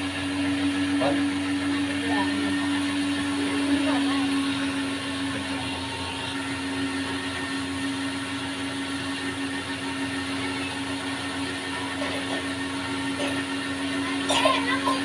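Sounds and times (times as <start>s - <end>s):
cotton candy machine humming: 0.0s - 15.0s.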